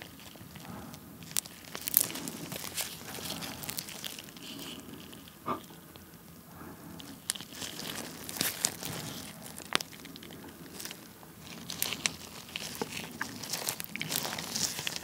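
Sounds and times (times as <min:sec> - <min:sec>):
honeycomb wax crackling and tearing: 0:00.0 - 0:15.0.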